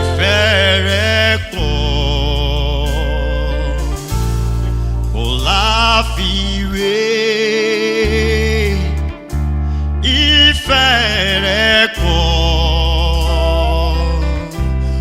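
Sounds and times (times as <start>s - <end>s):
low bass: 0.0s - 15.0s
person singing with vibrato: 0.0s - 15.0s.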